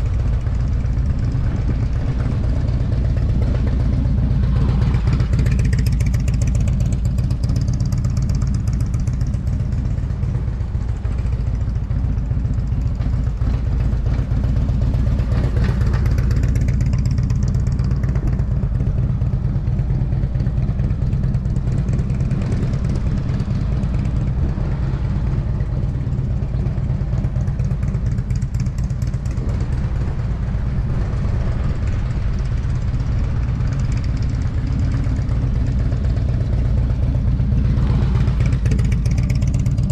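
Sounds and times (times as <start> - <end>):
motorcycle engine running: 0.0 - 39.9
steady low rumble: 0.0 - 39.9.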